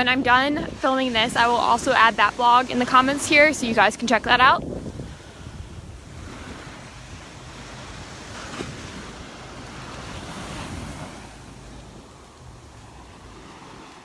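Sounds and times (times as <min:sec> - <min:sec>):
surf washing onto shore: 0:00.0 - 0:14.0
wind rumbling on microphone: 0:00.0 - 0:14.0.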